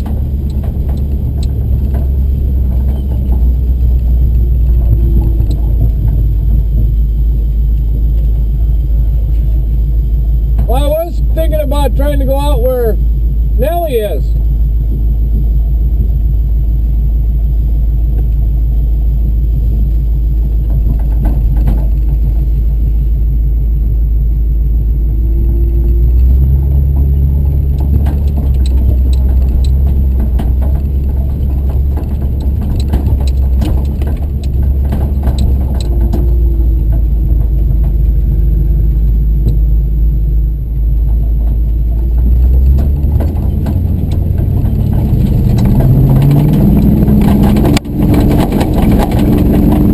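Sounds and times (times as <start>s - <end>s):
off-road vehicle engine running: 0.0s - 49.9s
vehicle rattles and knocks: 0.0s - 49.9s.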